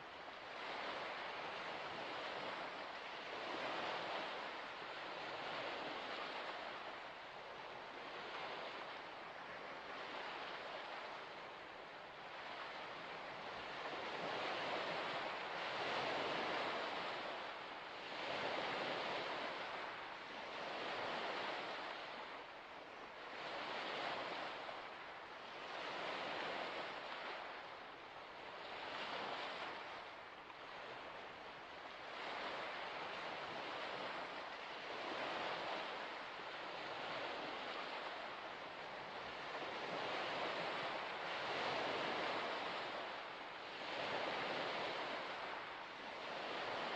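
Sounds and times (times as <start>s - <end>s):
small waves washing onto shore: 0.0s - 46.9s.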